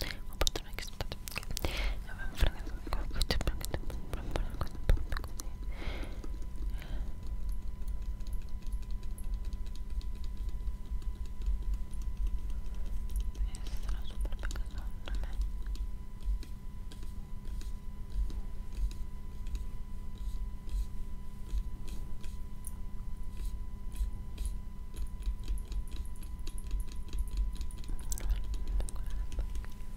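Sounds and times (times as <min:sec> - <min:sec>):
low electrical hum: 0:00.0 - 0:29.9
thin constant whine: 0:00.0 - 0:29.9.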